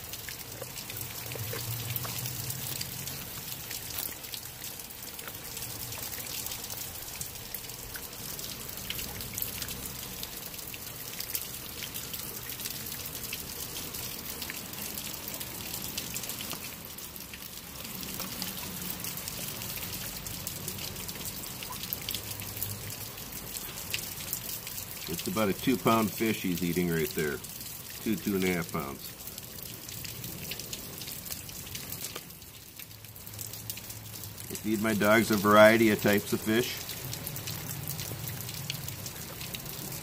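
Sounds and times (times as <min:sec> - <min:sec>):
rain drops ticking: 0:00.0 - 0:40.0.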